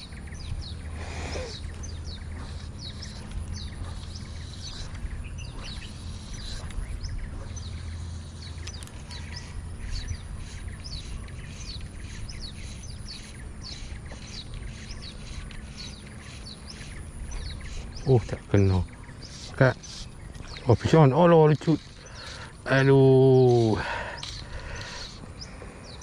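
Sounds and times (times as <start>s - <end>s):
birds chirping: 0.0s - 26.0s
low steady rumble: 0.0s - 26.0s.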